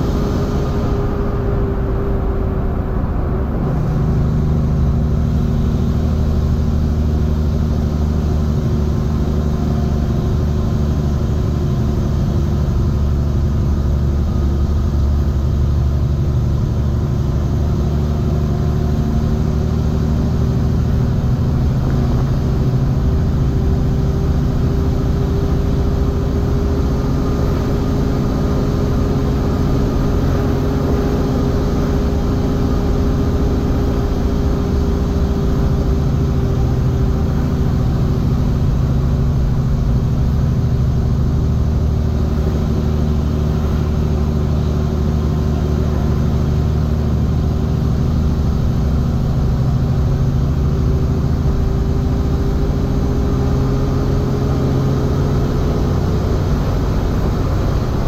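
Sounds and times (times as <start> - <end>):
deep hum: 0.0 - 58.0
diesel truck engine under load: 0.0 - 58.0.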